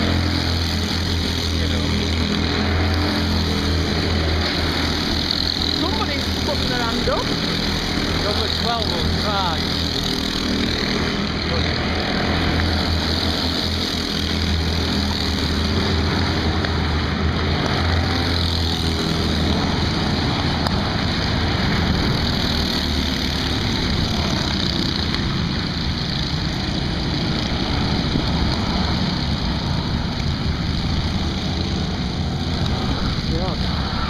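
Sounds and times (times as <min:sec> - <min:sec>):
go-kart engines running: 0:00.0 - 0:34.0.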